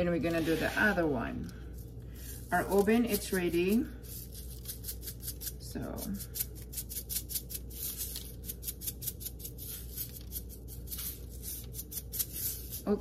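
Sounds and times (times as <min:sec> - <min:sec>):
sprinkles rattling in shaker jar: 0:01.7 - 0:13.0.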